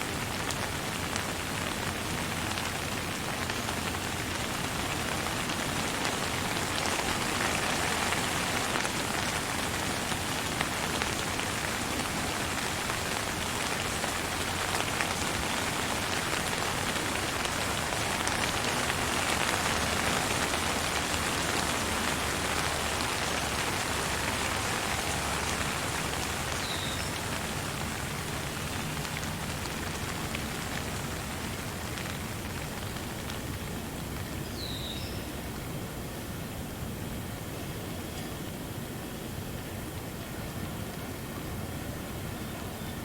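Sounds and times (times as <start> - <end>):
steady rain patter: 0.0 - 43.0.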